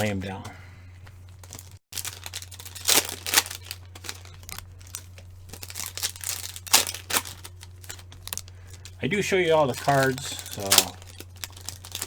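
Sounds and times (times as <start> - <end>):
card pack wrappers crinkling: 1.1 - 12.0.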